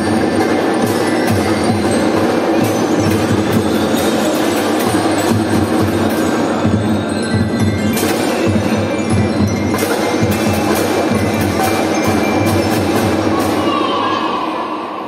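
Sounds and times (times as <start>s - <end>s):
bell lyre melody: 0.0s - 13.4s
drums playing a march: 0.0s - 13.6s.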